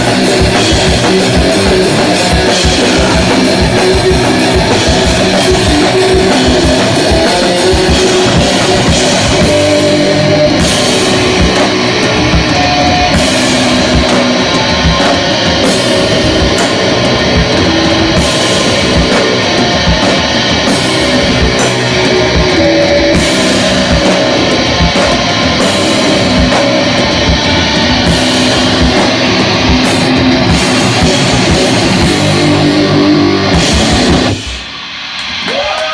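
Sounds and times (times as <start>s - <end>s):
rock band playing: 0.0s - 35.9s.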